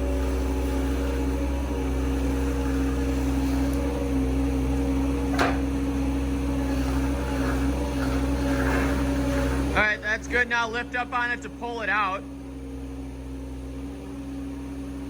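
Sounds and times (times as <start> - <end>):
skid steer engine humming: 0.0 - 15.0.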